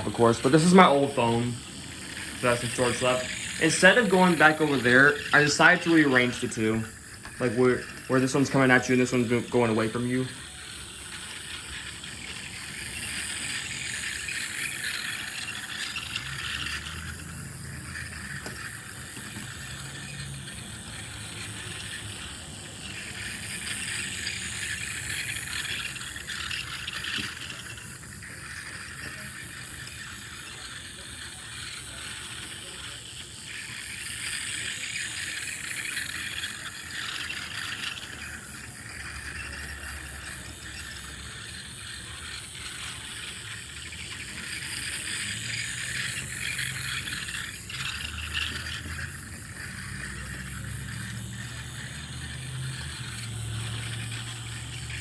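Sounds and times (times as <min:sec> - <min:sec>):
faint high motor whine: 0:00.0 - 0:55.0
toy trains clicking rattle: 0:00.0 - 0:55.0.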